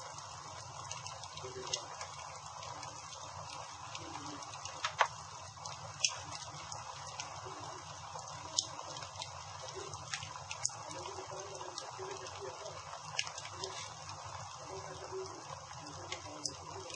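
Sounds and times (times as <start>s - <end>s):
campfire crackling: 0.0s - 16.9s
fire popping: 0.0s - 16.9s.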